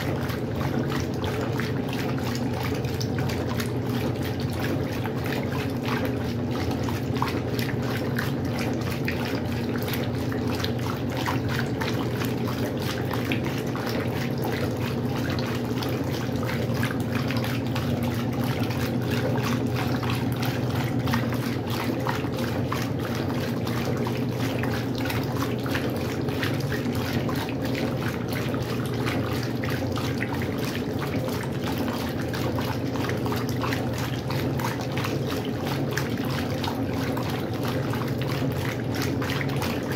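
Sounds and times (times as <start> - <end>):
washing machine motor hum: 0.0 - 39.9
water sloshing and splashing: 0.0 - 39.9.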